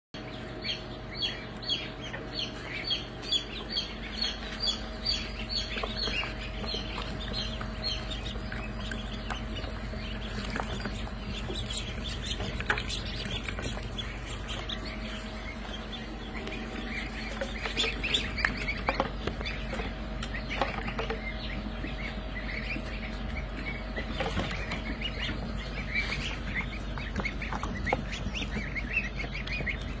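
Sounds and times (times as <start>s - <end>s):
ducklings and goslings peeping: 0.2s - 30.0s
steady low hum: 0.2s - 30.0s.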